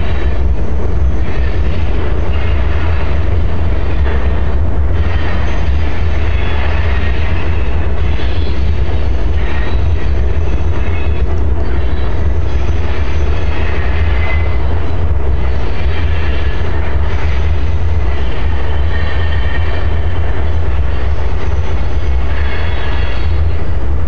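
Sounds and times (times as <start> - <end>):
freight train rolling over bridge: 0.0 - 24.0
train wheel squeals: 0.0 - 24.0
wind buffeting microphone: 0.0 - 24.0.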